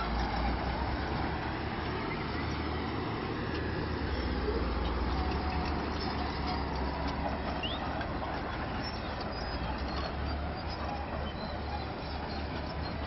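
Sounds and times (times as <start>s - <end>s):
bulldozer diesel engine rumble: 0.0s - 13.0s.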